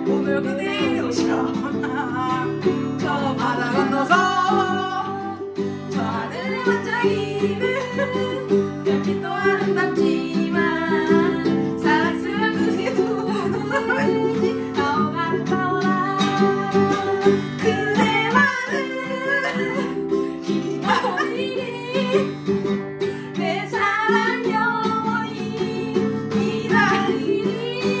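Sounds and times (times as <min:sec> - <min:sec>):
acoustic guitar: 0:00.0 - 0:28.0
strummed ukulele: 0:00.0 - 0:28.0
two people singing: 0:00.0 - 0:28.0.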